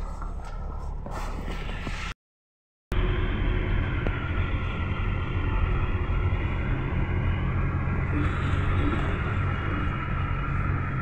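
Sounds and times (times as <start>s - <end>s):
engine and road rumble: 0.0s - 2.2s, 2.9s - 11.0s.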